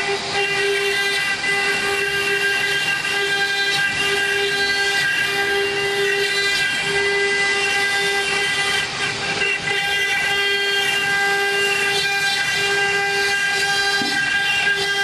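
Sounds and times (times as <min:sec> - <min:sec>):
bit cutting stone: 0:00.0 - 0:15.0
router spindle whine: 0:00.0 - 0:15.0.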